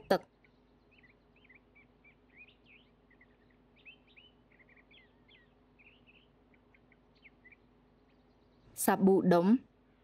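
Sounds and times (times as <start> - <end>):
faint birds chirping: 0.0 - 10.0
faint low hum: 0.0 - 10.0.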